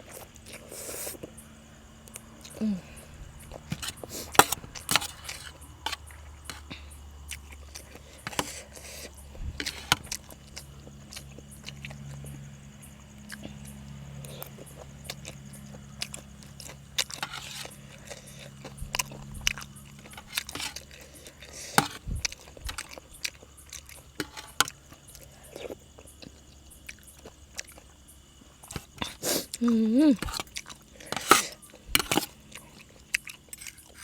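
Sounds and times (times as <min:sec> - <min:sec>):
chewing and crunching food: 0:00.0 - 0:34.0
crickets chirring: 0:00.0 - 0:34.0.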